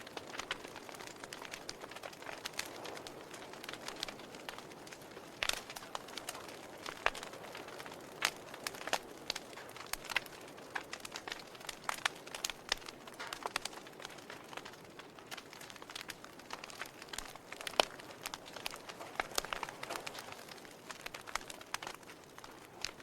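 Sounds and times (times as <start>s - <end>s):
logs crackling in fireplace: 0.0s - 23.0s.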